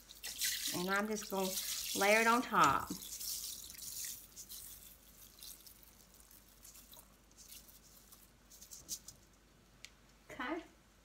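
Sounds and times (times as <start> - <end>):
rice grains trickling into pot: 0.0 - 9.1.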